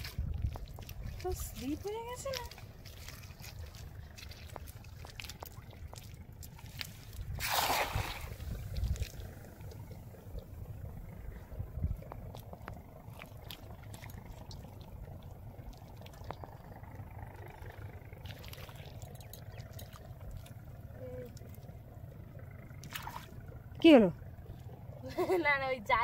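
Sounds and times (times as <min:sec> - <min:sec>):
wind rumble on microphone: 0:00.0 - 0:24.6
faint water lapping: 0:00.0 - 0:26.0.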